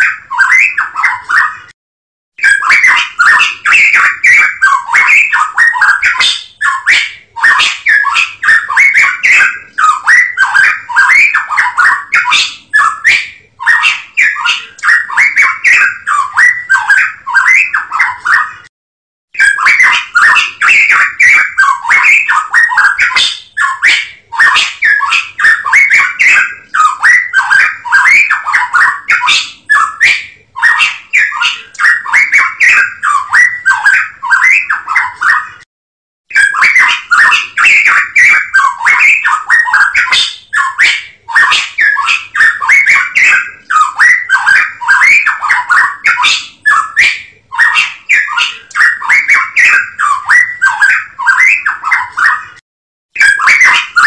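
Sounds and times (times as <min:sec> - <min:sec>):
songbird chattering: 0:02.4 - 0:18.5, 0:19.4 - 0:35.5, 0:36.4 - 0:52.4.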